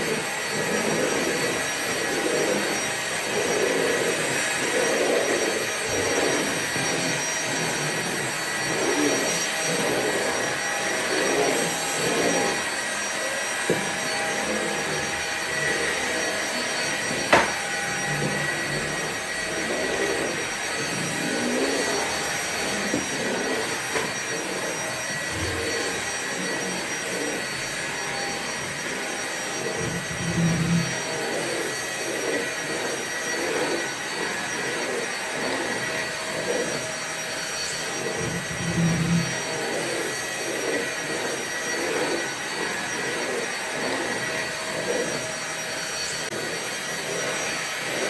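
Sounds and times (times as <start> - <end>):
vacuum cleaner running: 0.0 - 48.0.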